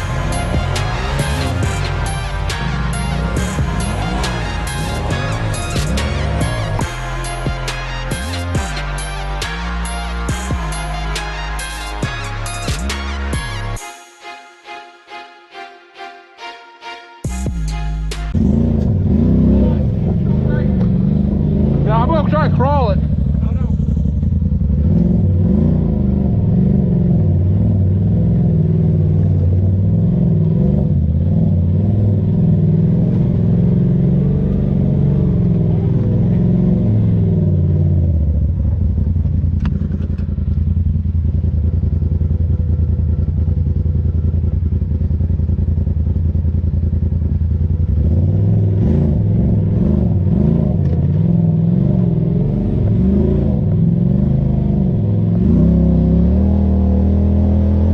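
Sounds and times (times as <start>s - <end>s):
utility vehicle engine revving: 0.0s - 13.8s, 17.7s - 57.9s.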